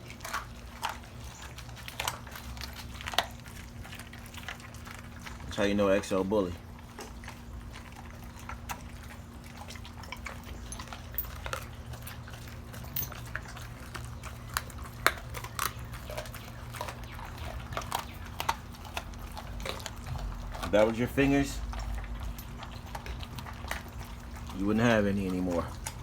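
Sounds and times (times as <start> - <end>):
dog crunching bones: 0.0 - 26.0.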